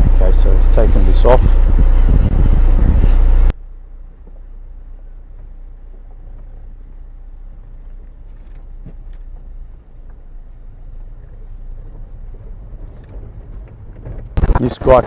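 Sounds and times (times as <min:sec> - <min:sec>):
vehicle engine idling: 0:00.0 - 0:14.4.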